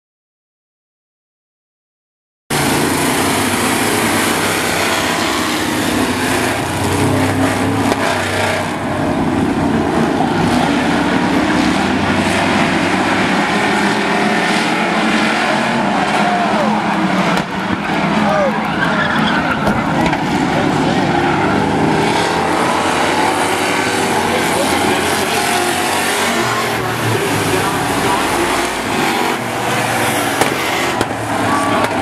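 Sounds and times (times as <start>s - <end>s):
pickup truck engines running: 2.5s - 32.0s.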